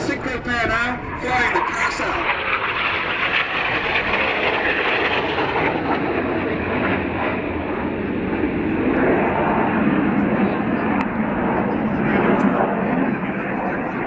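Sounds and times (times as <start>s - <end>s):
jets flying overhead: 0.0s - 14.0s.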